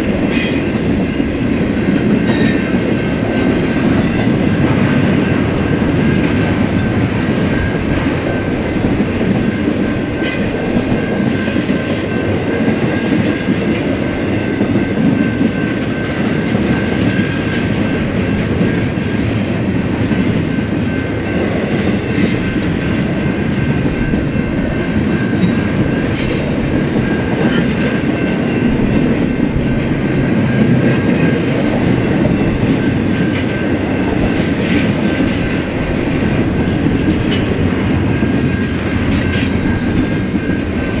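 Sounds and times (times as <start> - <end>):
train wheels clicking over rail joints: 0.0 - 41.0.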